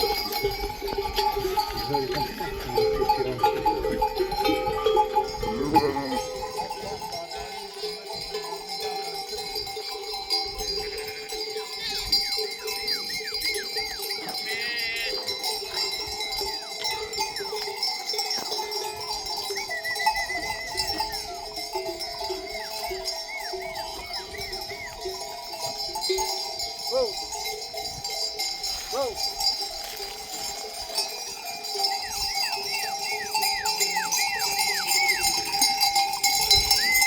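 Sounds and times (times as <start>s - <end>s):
sheep bells clanking: 0.0s - 37.0s.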